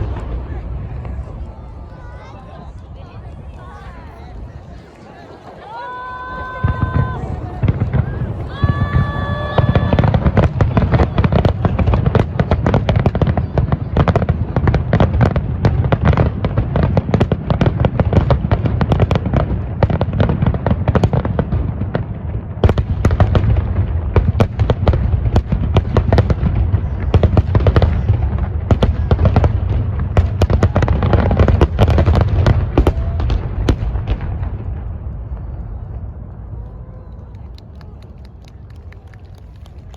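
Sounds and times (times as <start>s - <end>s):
fireworks cracking and banging: 0.0s - 4.9s, 5.9s - 39.9s.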